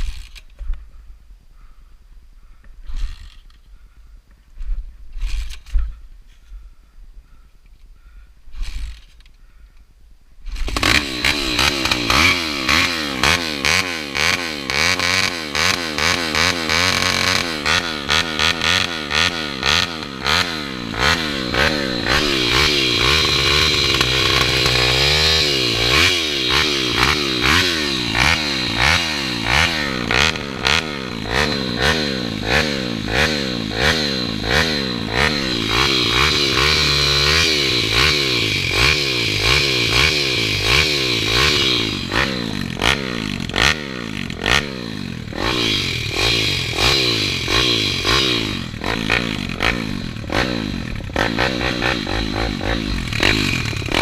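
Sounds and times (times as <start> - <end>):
motorbike engine revving: 10.4 - 54.0.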